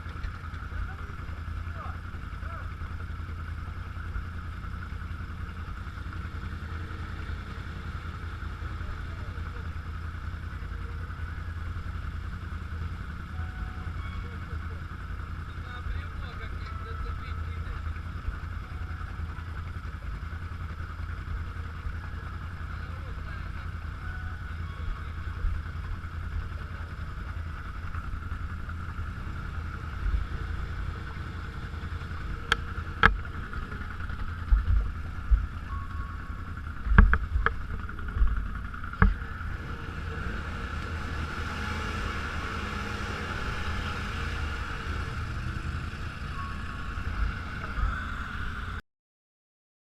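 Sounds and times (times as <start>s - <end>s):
off-road vehicle running: 0.0s - 48.8s.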